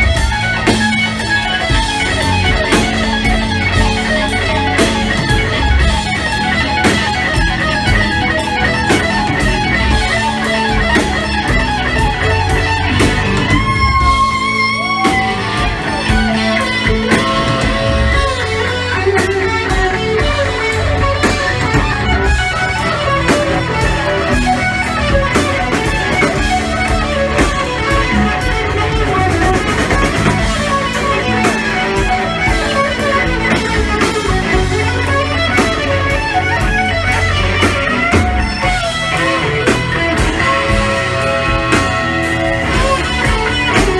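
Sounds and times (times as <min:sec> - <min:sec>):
electric guitar lead: 0:00.0 - 0:43.9
live band playing: 0:00.0 - 0:43.9.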